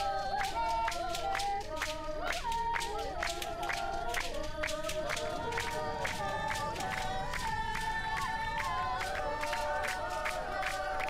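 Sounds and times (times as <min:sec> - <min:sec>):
rhythmic hand-clapping: 0:00.0 - 0:11.0
voices singing held wavering notes: 0:00.0 - 0:11.0.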